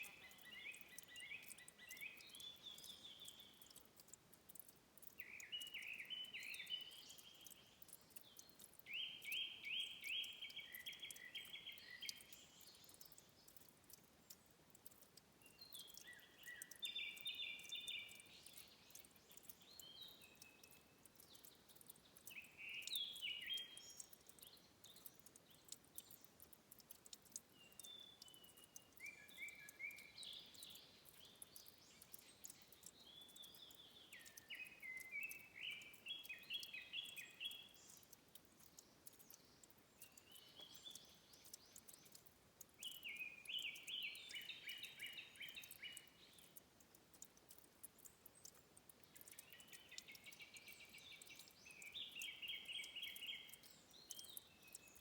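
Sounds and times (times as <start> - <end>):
tiny clicks: 0.0 - 9.4, 10.2 - 55.0
faint steady hiss: 0.0 - 55.0
songbird singing: 0.0 - 55.0.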